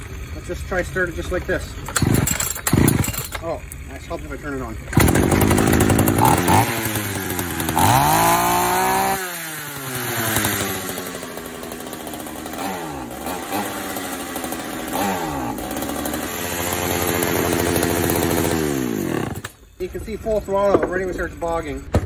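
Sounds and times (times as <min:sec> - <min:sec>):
chainsaw engine revving: 0:01.2 - 0:19.6.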